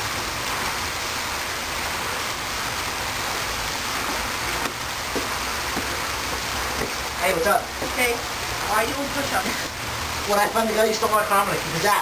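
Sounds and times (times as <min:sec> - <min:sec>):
fountain water falling: 0:00.0 - 0:12.0.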